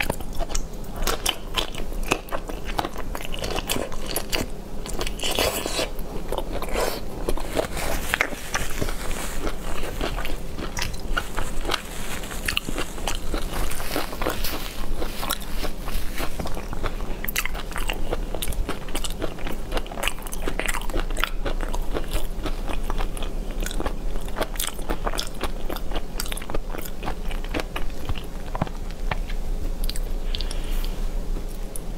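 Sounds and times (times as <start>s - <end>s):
person chewing crunchy food: 0.0s - 31.9s.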